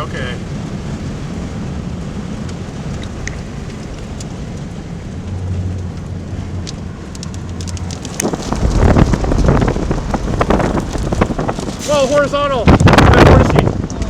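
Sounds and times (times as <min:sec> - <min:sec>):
rain: 0:00.0 - 0:14.0
wind: 0:00.0 - 0:14.0
wind buffeting microphone: 0:00.0 - 0:14.0.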